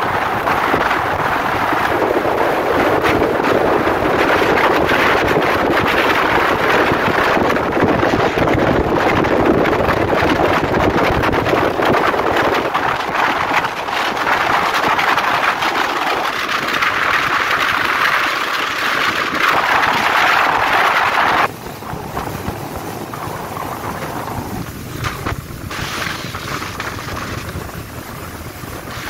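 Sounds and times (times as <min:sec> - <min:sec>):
rushing water: 0:00.0 - 0:29.0
speedboat engine: 0:00.0 - 0:29.0
wind buffeting microphone: 0:00.0 - 0:29.0.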